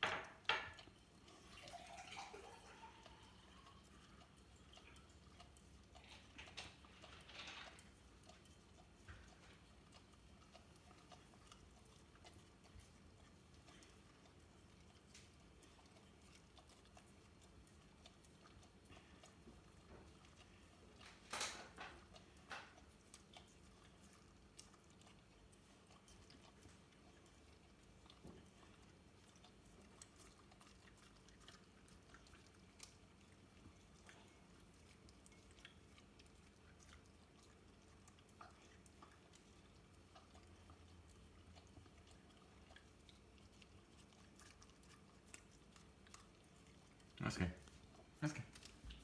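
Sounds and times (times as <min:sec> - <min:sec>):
dog licking and smacking: 0:00.0 - 0:49.0.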